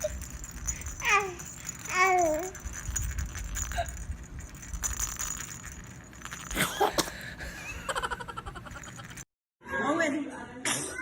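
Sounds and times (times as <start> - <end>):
low background hum: 0.0 - 9.3.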